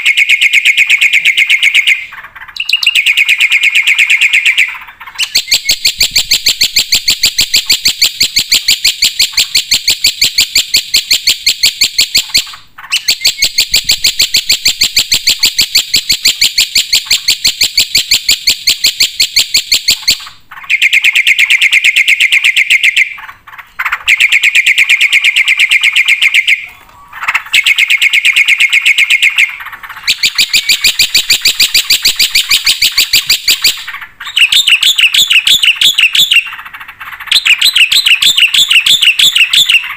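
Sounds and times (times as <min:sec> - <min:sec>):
bird singing rapid high chirps: 0:00.0 - 0:39.9.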